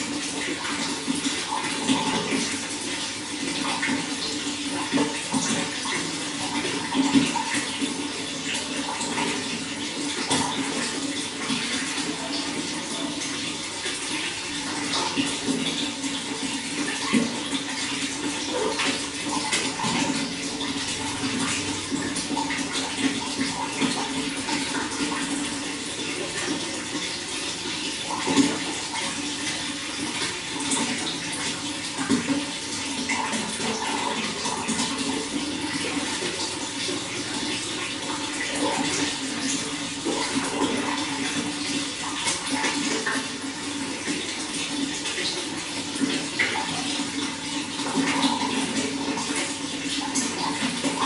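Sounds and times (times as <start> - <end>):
running water splashing: 0.0 - 51.0.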